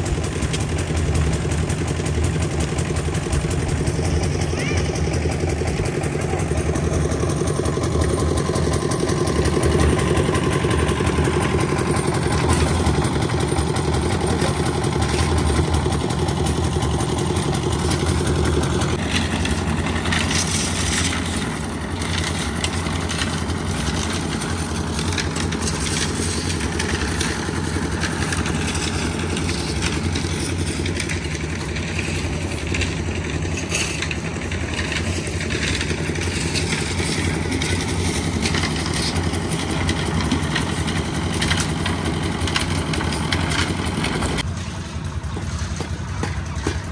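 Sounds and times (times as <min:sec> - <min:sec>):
clatter: 0:00.0 - 0:46.9
engine running: 0:00.0 - 0:46.9.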